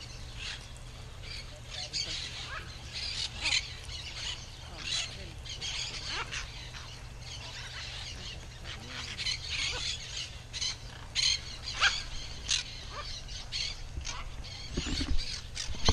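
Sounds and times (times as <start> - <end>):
macaws calling: 0.0 - 15.9.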